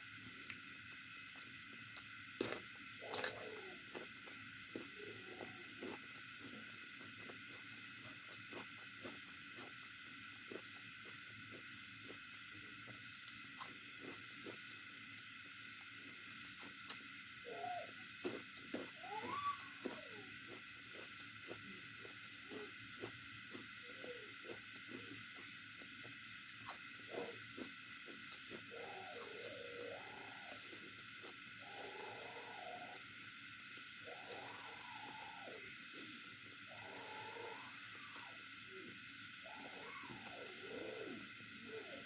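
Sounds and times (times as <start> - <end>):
pulsing insect chirp: 0.0 - 42.0.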